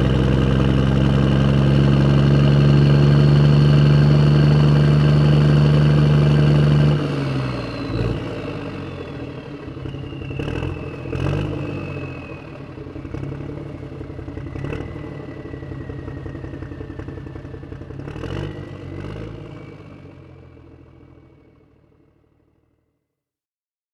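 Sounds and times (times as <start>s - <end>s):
tractor engine running: 0.0s - 21.4s.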